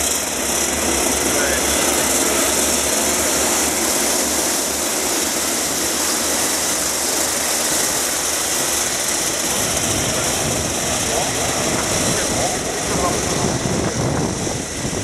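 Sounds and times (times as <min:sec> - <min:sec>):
racing kart engines droning: 0:00.0 - 0:15.0.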